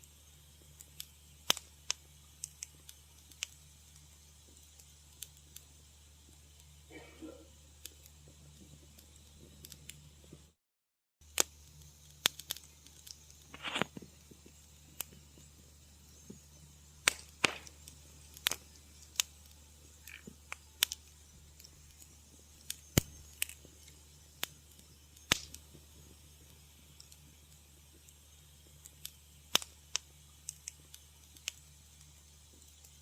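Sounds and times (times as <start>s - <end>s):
low steady hum: 0.0s - 10.6s, 11.2s - 33.0s
wood fire crackling: 0.0s - 10.6s, 11.2s - 33.0s.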